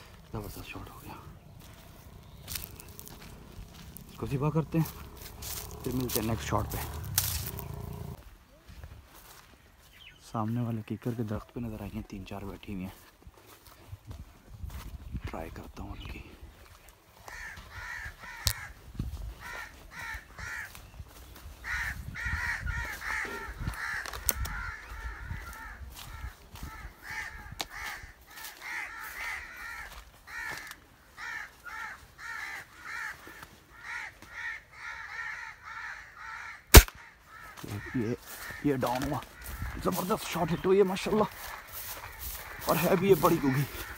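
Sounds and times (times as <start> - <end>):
birds harsh calls: 0.0 - 8.2, 15.1 - 43.9.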